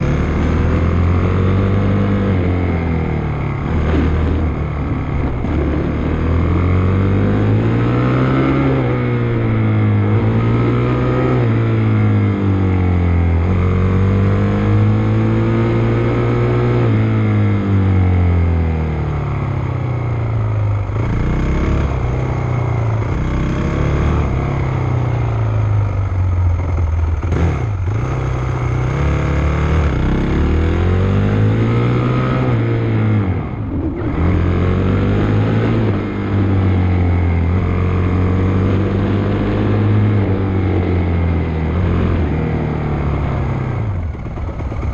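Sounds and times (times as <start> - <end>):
motocross bike engine revving: 0.0 - 17.6, 21.0 - 25.6, 26.6 - 44.9.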